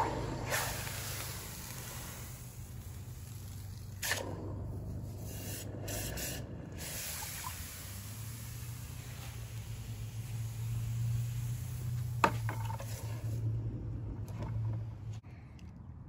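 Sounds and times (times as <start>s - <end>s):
hot metal hissing in water: 0.0s - 13.5s
steady low hum: 0.0s - 15.8s.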